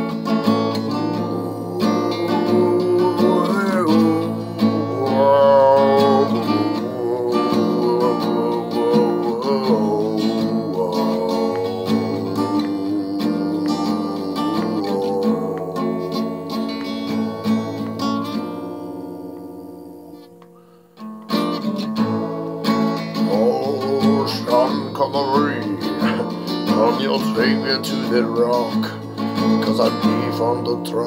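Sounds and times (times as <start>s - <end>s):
man singing: 0.0s - 20.8s, 23.1s - 31.0s
acoustic guitar strumming: 0.0s - 31.0s.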